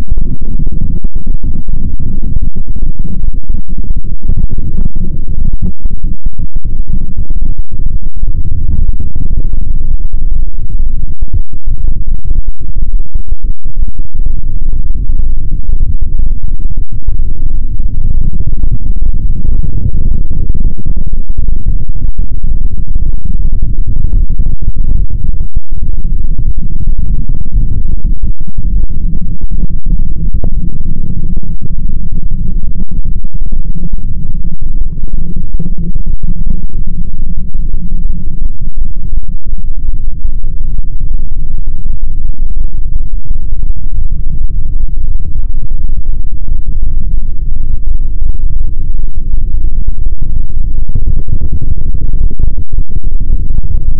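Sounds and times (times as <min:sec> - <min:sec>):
distorted low rumble: 0:00.0 - 0:53.9.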